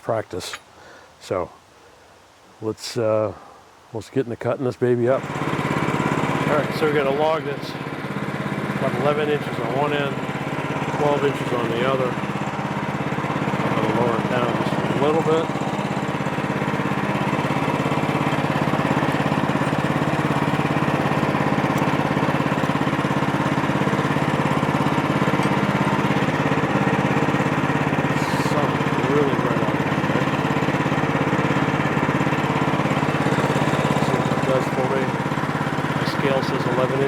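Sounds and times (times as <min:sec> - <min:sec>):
gas engine running steadily: 0:05.1 - 0:37.0.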